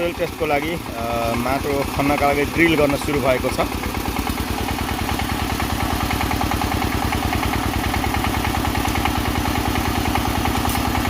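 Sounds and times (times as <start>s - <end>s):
drill rig engine pulsing: 0.0s - 11.0s.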